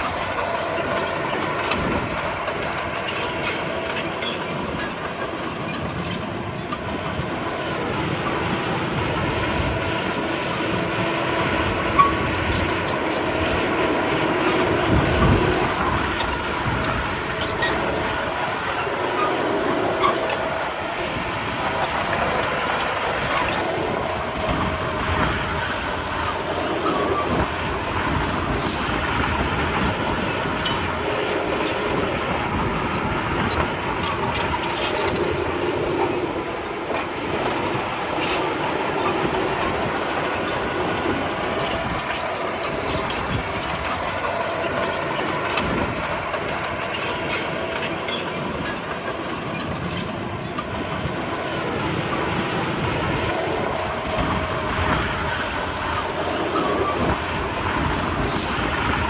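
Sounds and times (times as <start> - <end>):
bulldozer diesel engine running: 0.0 - 59.0
steel tracks clanking: 0.0 - 59.0.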